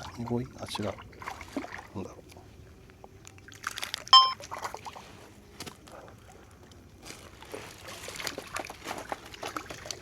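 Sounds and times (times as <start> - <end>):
water splashing and dripping: 0.0 - 2.4, 3.2 - 5.1, 5.8 - 10.0.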